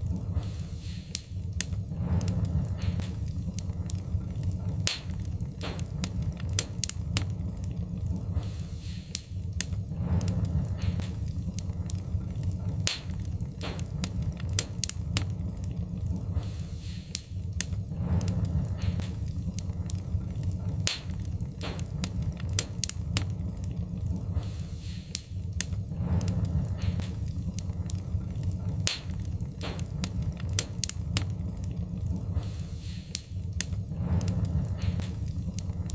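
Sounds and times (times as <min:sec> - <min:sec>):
low fire rumble: 0:00.0 - 0:35.9
wood fire crackling: 0:00.0 - 0:35.9.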